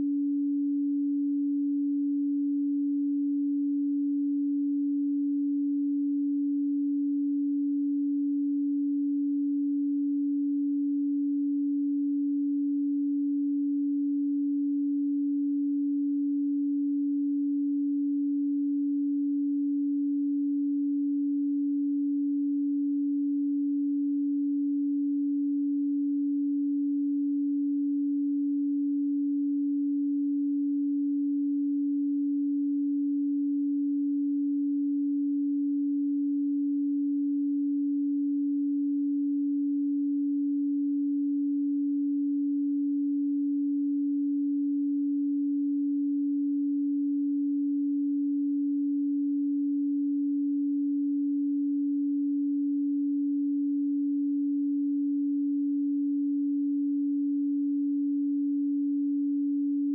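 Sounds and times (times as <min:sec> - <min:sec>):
pure sine tone: 0:00.0 - 0:59.9.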